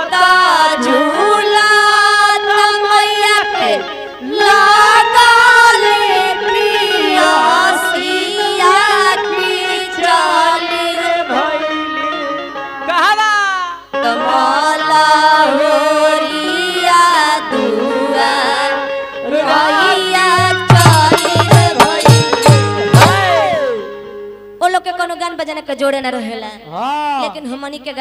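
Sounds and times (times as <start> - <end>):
woman singing into a microphone: 0.0 - 23.9
instrumental accompaniment: 0.2 - 13.2, 13.8 - 24.6.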